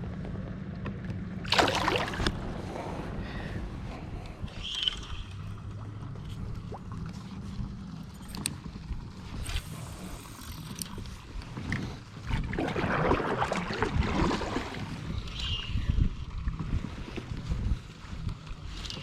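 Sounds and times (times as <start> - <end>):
water splashing around a kayak: 1.4 - 4.1, 5.1 - 10.1, 11.0 - 19.0.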